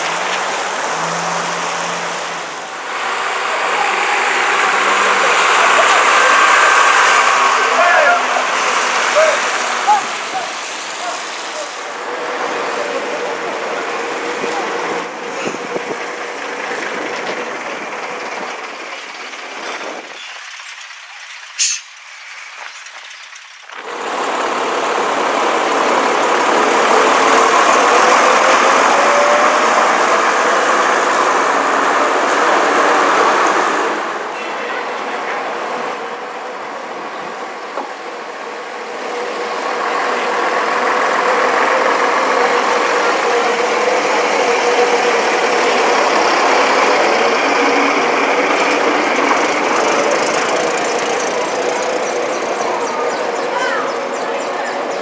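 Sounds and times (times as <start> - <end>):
bus diesel engine passing: 0.0 - 55.0
street traffic: 0.0 - 55.0.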